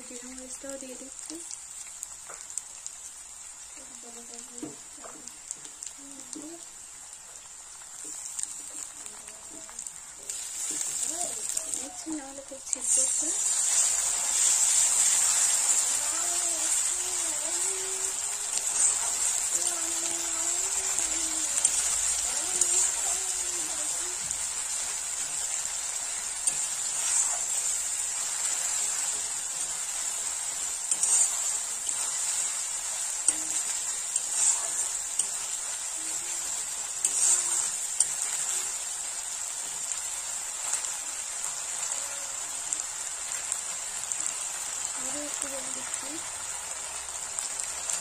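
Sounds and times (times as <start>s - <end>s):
onions sizzling in hot oil: 0.0s - 48.0s.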